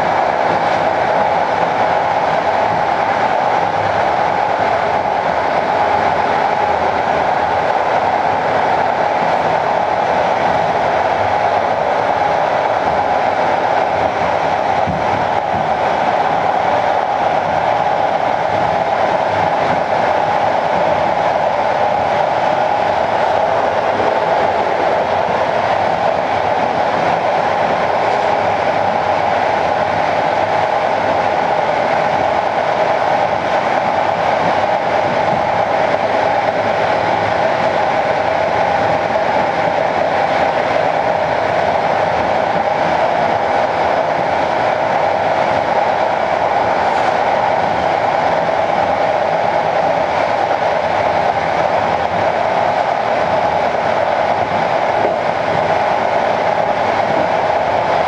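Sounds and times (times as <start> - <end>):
passenger train running: 0.0 - 58.0.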